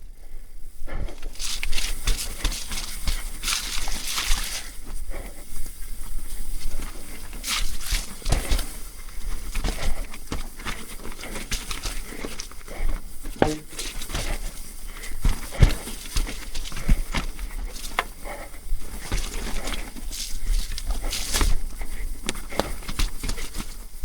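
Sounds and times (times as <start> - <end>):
mountain bike clattering on trail: 0.9 - 5.4, 6.5 - 24.0.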